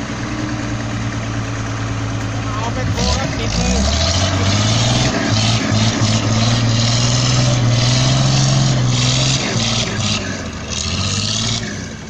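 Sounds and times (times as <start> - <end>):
diesel engine at high revs: 0.0 - 12.0.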